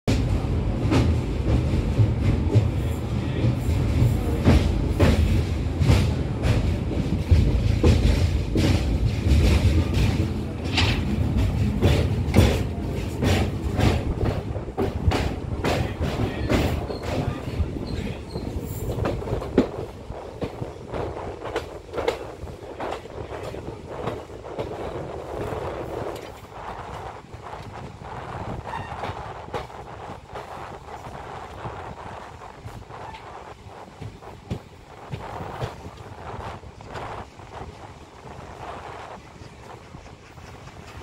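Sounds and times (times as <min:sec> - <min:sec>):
train rumbling: 0:00.0 - 0:41.0
wheels clacking over rail joints: 0:00.1 - 0:41.0.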